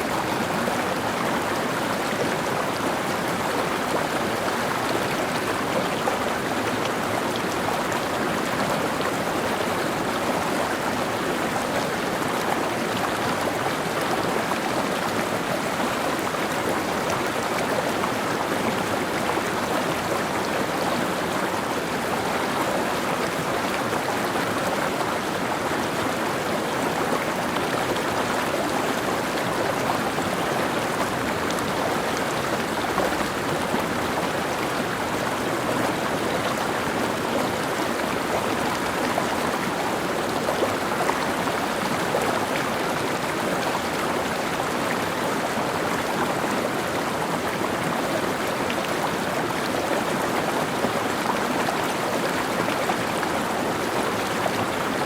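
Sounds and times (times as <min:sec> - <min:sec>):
stream splashing over rocks: 0:00.0 - 0:55.0.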